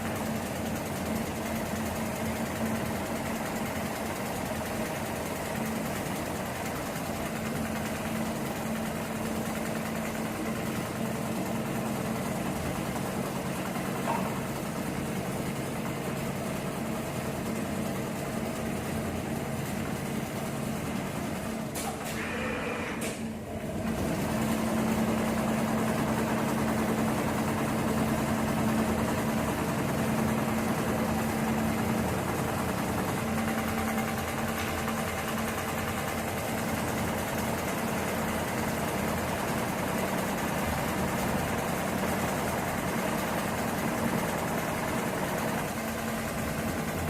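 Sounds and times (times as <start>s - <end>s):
sewing machine running: 0.0s - 47.0s.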